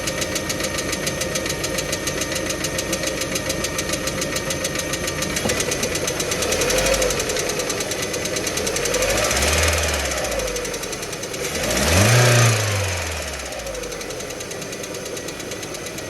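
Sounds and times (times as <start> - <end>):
engine revving: 0.0 - 16.0
engine running with fast knocking: 0.0 - 16.0.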